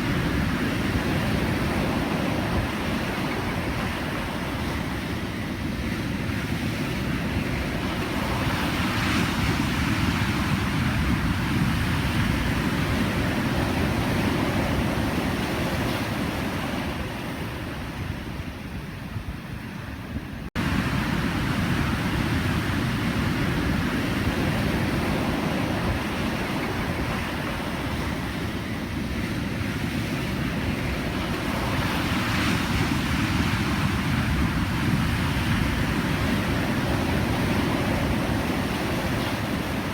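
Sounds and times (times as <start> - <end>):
ocean waves breaking: 0.0 - 19.9, 20.6 - 39.9.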